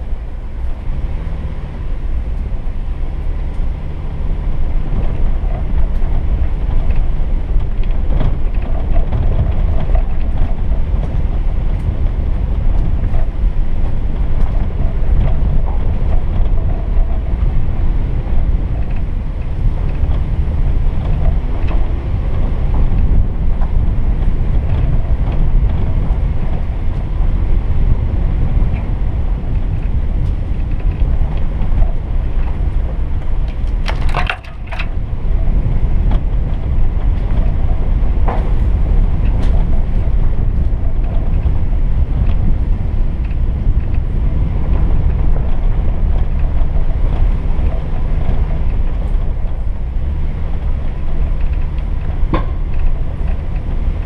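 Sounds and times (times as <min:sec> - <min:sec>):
vehicle engine rumbling: 0:00.0 - 0:54.0
wind buffeting microphone: 0:00.0 - 0:54.0
knocks and rattles: 0:04.8 - 0:54.0.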